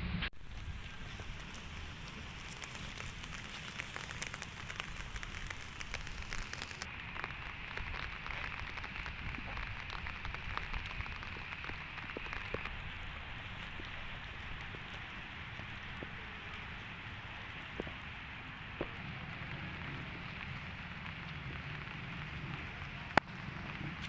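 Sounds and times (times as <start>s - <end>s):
rain falling: 0.4s - 24.0s.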